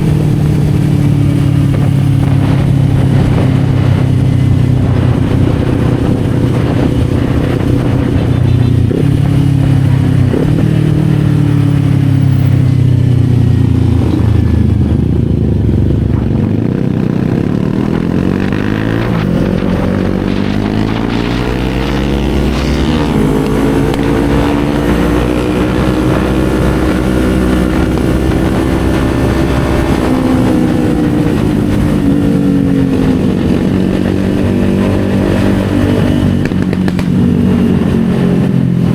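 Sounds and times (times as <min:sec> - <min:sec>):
motorcycle engine running: 0:00.0 - 0:38.9
wind rush: 0:00.0 - 0:38.9.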